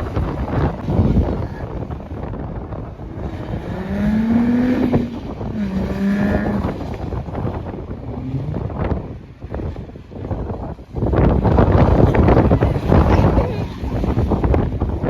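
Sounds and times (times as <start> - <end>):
car engine revving: 0.0 - 10.4, 11.0 - 15.0
wind on microphone: 0.0 - 15.0.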